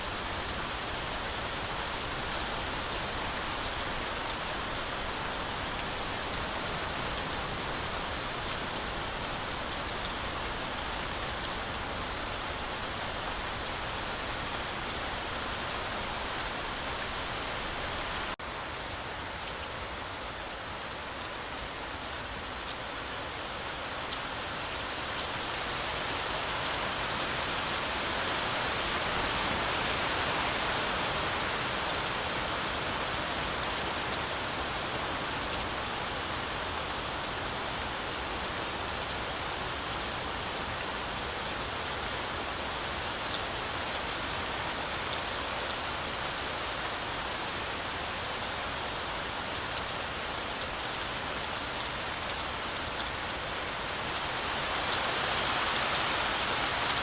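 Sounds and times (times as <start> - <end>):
heavy rain on forest canopy: 0.0 - 57.0.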